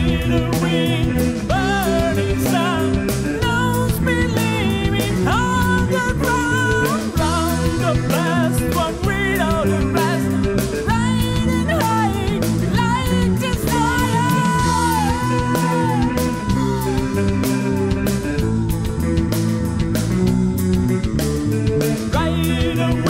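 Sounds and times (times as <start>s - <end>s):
rock song with singing and guitar: 0.0s - 23.0s.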